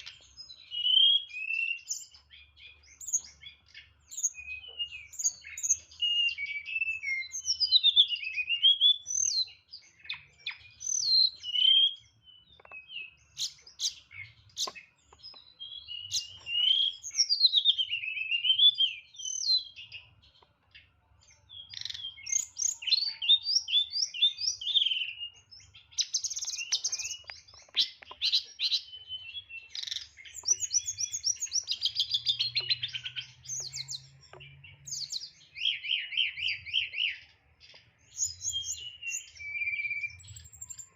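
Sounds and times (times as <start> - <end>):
songbird singing trills: 0.0 - 40.9.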